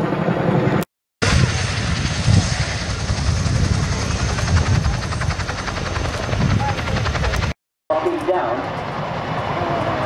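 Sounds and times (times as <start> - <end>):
helicopter rotors beating: 0.0 - 10.0.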